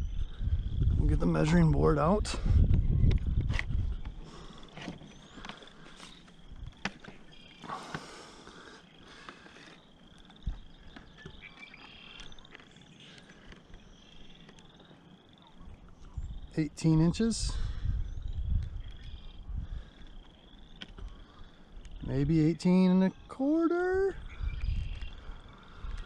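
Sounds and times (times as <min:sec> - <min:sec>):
frogs trilling: 0:00.0 - 0:26.0.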